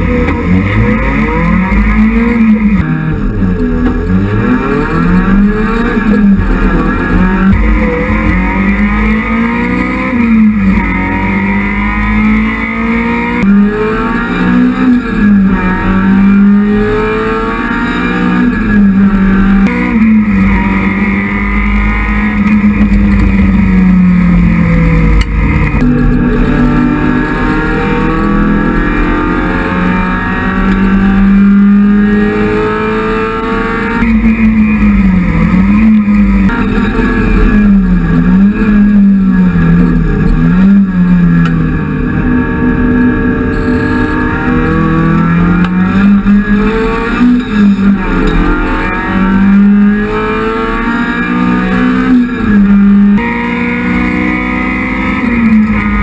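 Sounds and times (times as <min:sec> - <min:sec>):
race car engine from inside cabin: 0:00.0 - 0:56.0.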